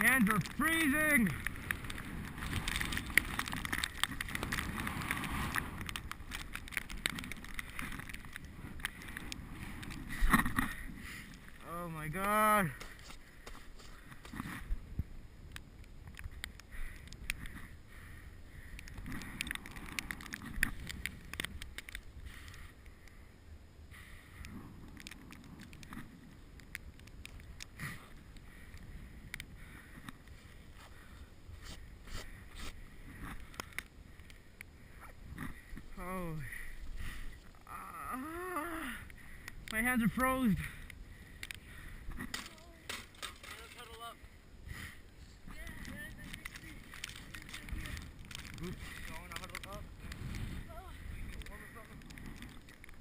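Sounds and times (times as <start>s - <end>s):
bike rattling clicks: 0.0s - 11.6s, 15.4s - 17.8s, 18.6s - 23.2s, 24.2s - 37.3s, 38.7s - 44.9s, 45.6s - 53.0s
bicycle rumbling over snow: 0.0s - 53.0s.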